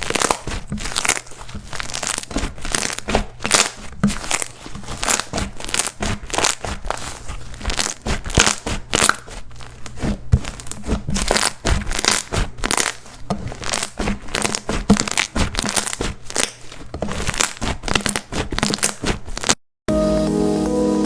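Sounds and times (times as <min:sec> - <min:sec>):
slime crackling and popping: 0:00.0 - 0:19.6.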